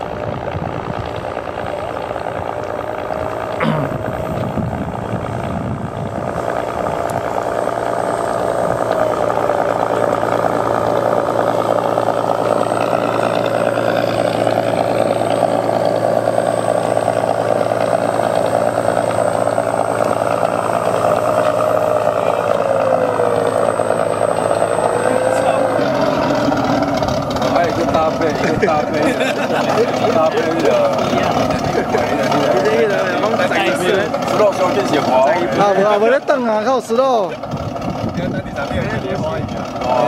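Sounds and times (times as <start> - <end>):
simulated engine through speaker: 0.0 - 40.0.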